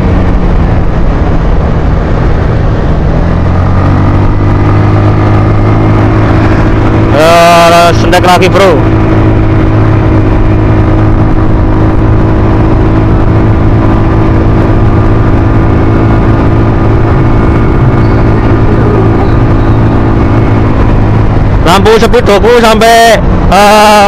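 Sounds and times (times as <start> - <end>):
scooter engine labouring: 3.2 - 24.0.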